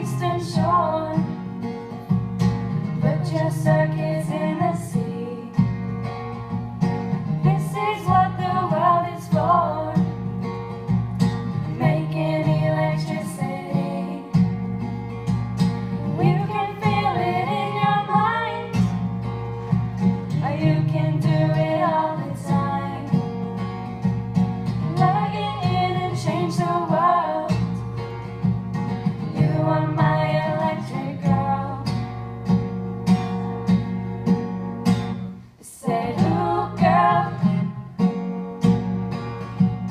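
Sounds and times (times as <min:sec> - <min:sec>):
guitar accompaniment: 0:00.0 - 0:39.9.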